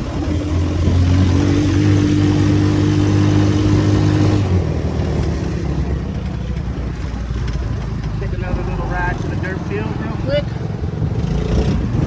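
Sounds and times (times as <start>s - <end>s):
small buggy engine running: 0.0s - 12.0s.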